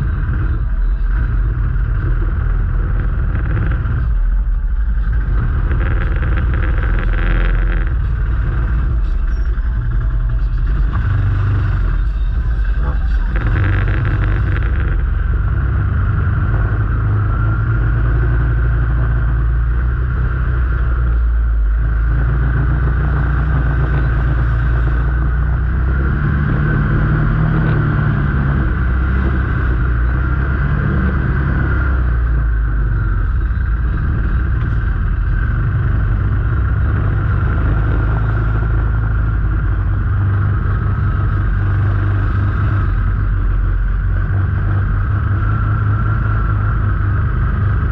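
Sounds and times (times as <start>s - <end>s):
vehicle engine rumbling: 0.0s - 47.9s.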